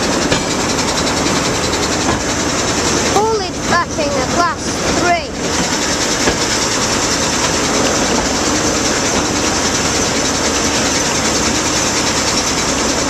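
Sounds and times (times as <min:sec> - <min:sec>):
diesel locomotive engine running: 0:00.0 - 0:13.0.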